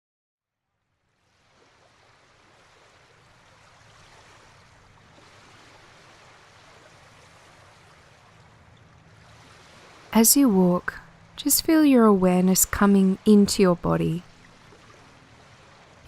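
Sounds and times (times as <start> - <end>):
flowing water: 0.9 - 16.0.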